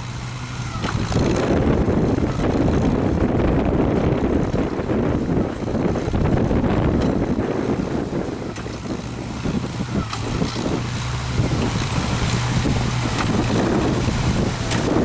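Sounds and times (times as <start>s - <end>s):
hay baler running: 0.0s - 15.0s
tractor engine running: 0.0s - 15.0s
wind buffeting microphone: 0.0s - 15.0s.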